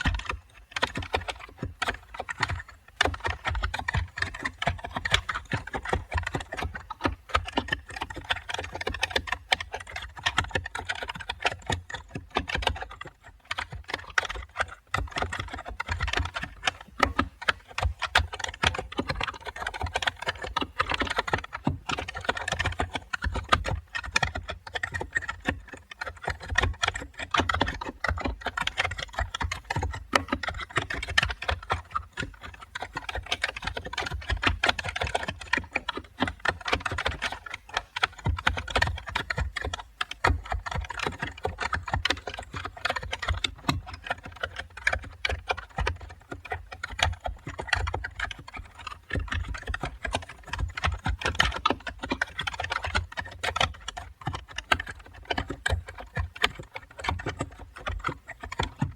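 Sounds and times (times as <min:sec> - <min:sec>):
typing on a keyboard: 0:00.0 - 0:58.9.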